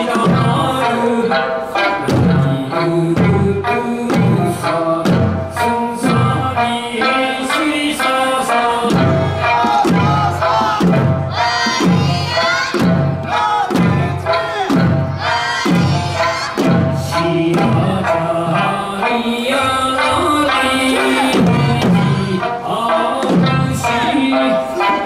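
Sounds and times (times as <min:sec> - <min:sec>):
drum beats: 0:00.0 - 0:25.0
folk song singing: 0:00.0 - 0:25.0.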